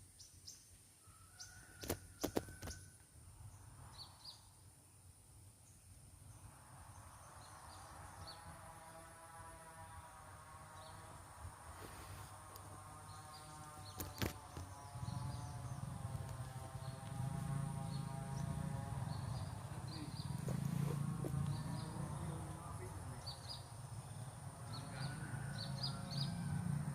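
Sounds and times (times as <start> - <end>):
high insect whine: 1.3 - 26.9.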